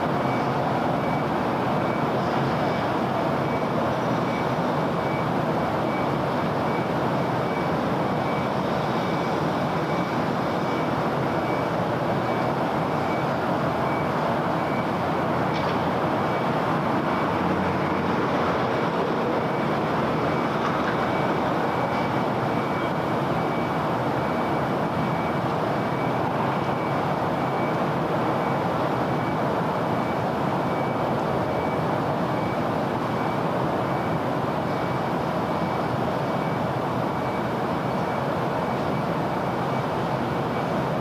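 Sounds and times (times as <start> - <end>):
city road traffic: 0.0 - 41.0.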